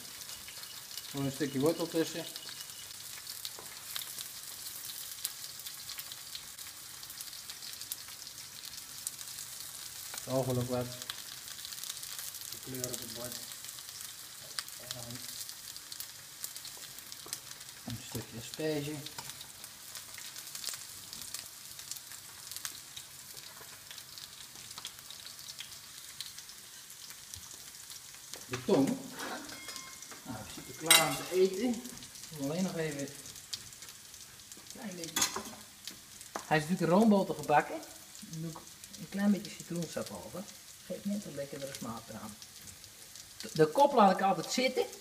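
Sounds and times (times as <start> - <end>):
fish sizzling in a frying pan: 0.0 - 45.0.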